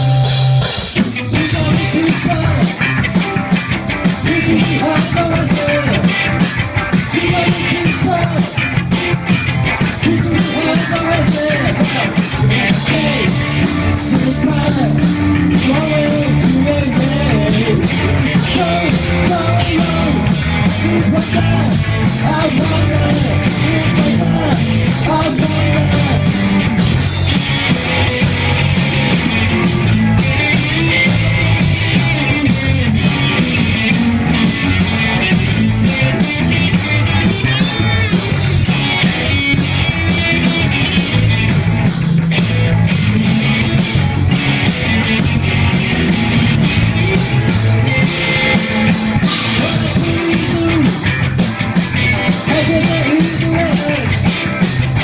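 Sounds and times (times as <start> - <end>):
rock music with singing: 0.0 - 55.0.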